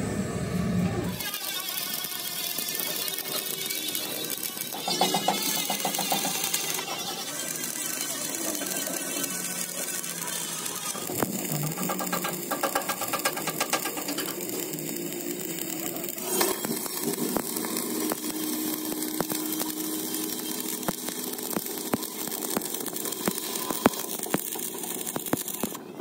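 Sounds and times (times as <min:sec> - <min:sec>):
welding arc crackling: 0:01.1 - 0:25.9.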